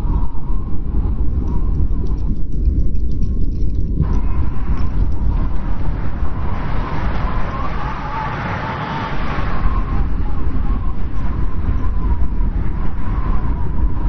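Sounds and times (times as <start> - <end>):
strong wind rumbling: 0.0 - 14.0
wind whistling: 0.0 - 14.0.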